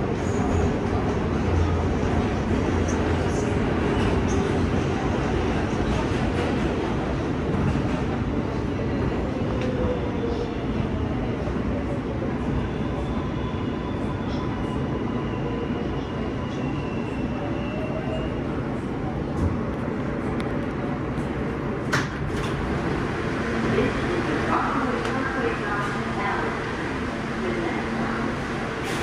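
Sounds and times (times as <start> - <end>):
subway train wheels rumbling on track: 0.0 - 29.0.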